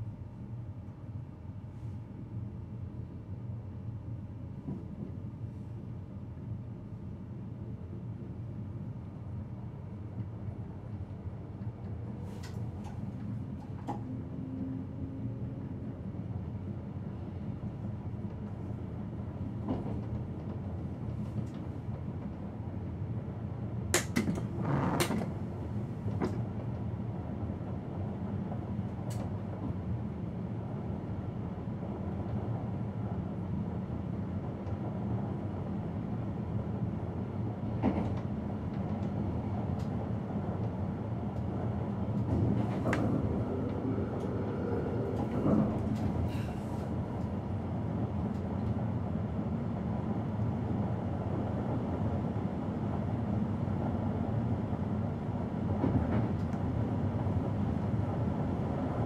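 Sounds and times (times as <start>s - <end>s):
train low rumble: 0.0s - 59.0s.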